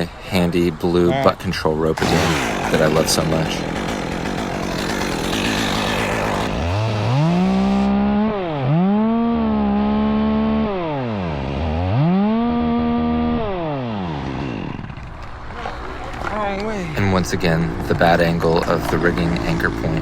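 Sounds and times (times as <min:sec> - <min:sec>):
chainsaw revving: 0:01.9 - 0:20.0.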